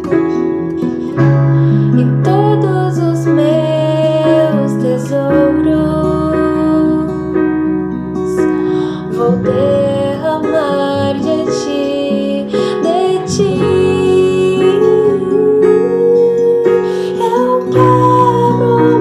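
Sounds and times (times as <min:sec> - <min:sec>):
woman singing: 0:00.0 - 0:19.0.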